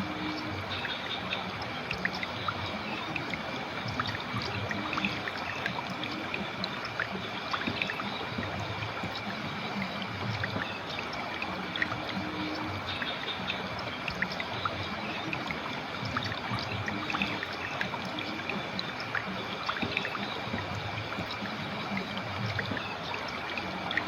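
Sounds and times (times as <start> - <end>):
river flowing: 0.0 - 24.0
water splashing and gurgling: 0.0 - 24.0.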